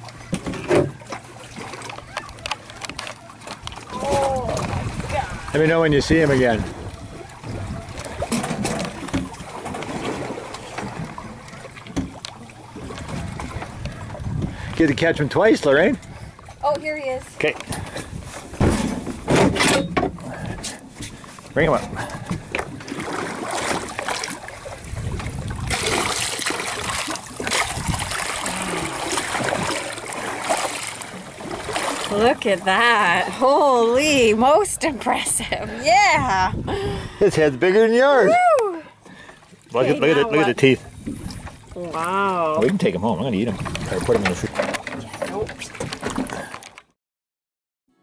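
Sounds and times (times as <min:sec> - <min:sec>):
steady water wash: 0:00.0 - 0:46.8
water slapping boat hull: 0:00.0 - 0:47.0.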